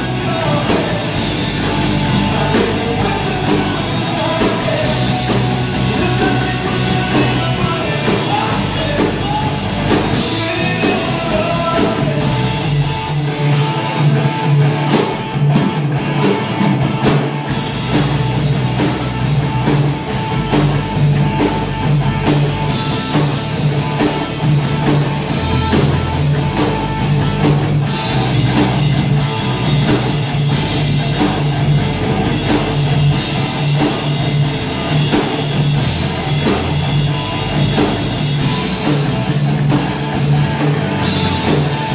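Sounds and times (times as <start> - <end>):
drum kit: 0.0 - 41.9
electric bass: 0.0 - 41.9
electric guitar: 0.0 - 41.9.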